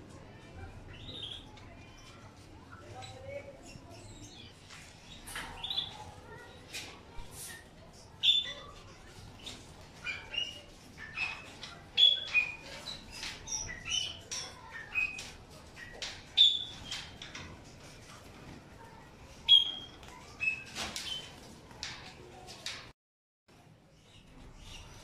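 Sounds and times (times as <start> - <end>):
cage birds chirping: 0.0 - 22.9, 23.5 - 25.0.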